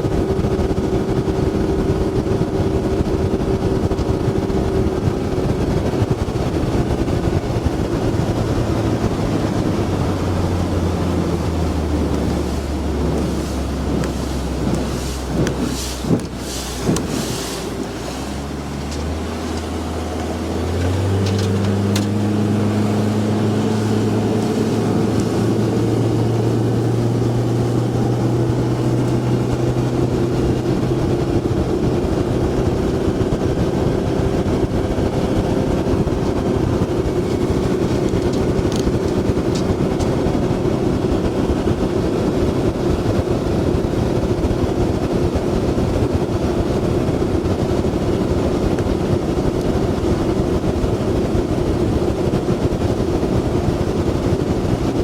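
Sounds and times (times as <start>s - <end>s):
boat motor speeding up: 0.0s - 55.0s
water rushing: 0.0s - 55.0s
wind noise: 0.0s - 55.0s.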